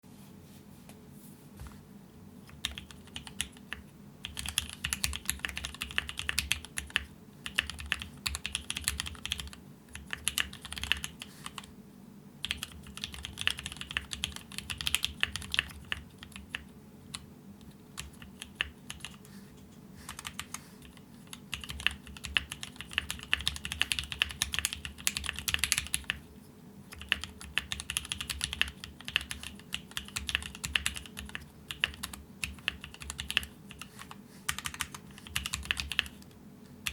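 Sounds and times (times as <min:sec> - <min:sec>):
mechanical keyboard typing: 0:02.5 - 0:11.7, 0:12.4 - 0:19.3, 0:20.1 - 0:26.2, 0:26.9 - 0:36.9.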